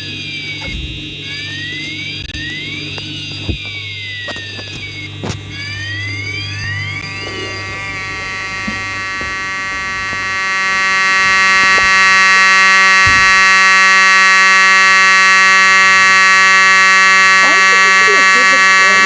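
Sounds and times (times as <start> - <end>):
fire alarm horn buzzing: 0.0 - 19.0
falling sweep tone: 2.3 - 19.0.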